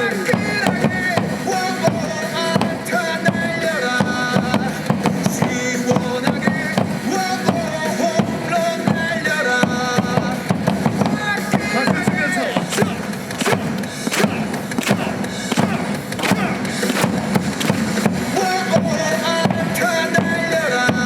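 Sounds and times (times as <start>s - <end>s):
stadium cheer music over loudspeakers: 0.0s - 21.0s
steady drum beat: 0.0s - 21.0s.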